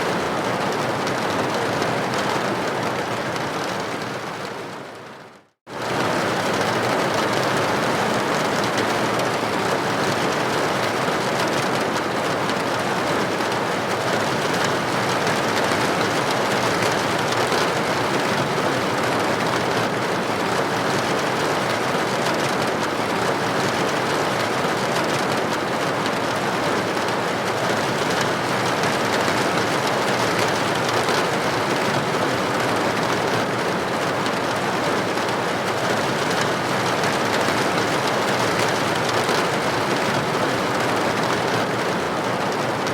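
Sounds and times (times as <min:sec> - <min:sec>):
rain pattering on a window: 0:00.0 - 0:42.9.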